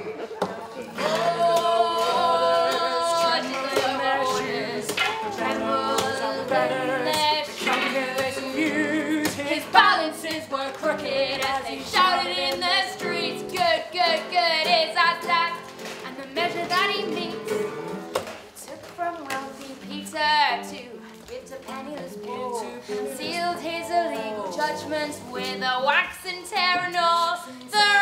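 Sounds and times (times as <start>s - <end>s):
acoustic guitar: 0.0s - 28.0s
woman singing: 1.0s - 28.0s.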